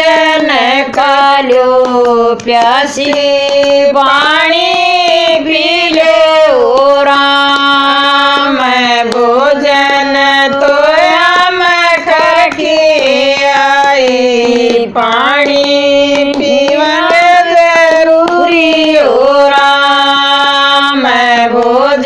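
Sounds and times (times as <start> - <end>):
hand claps keeping the beat: 0.0 - 22.0
women singing folk song: 0.0 - 22.0.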